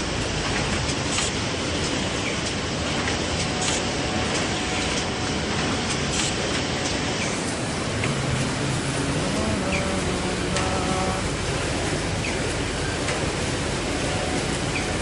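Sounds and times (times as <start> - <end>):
light machine clacks: 0.0 - 15.0
wrapping machine running: 0.0 - 15.0.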